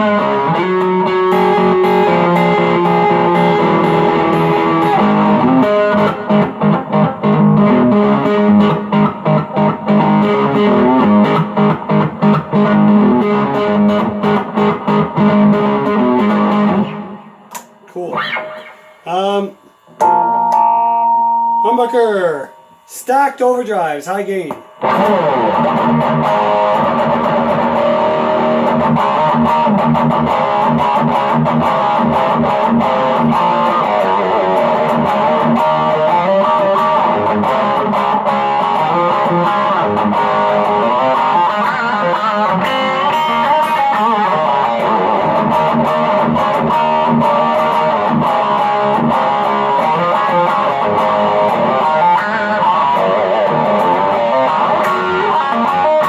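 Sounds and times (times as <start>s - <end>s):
distorted electric guitar riffing: 0.0s - 56.0s.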